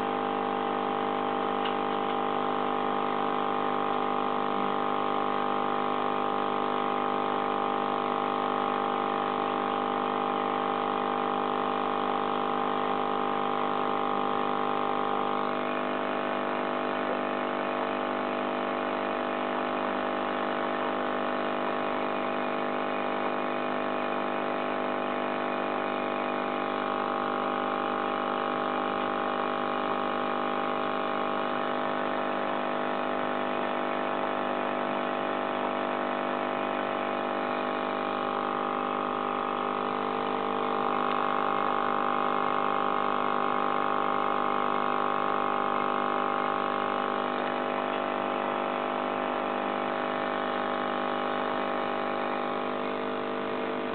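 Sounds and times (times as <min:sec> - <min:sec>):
aquarium pump humming: 0:00.0 - 0:53.9.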